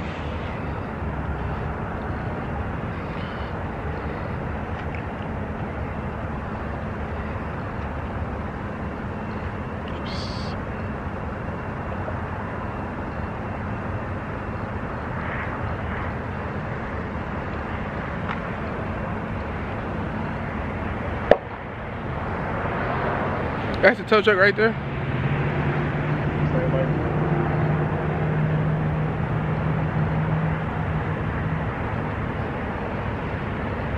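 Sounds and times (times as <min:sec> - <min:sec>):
rumble of passing vehicles: 0:00.0 - 0:33.9.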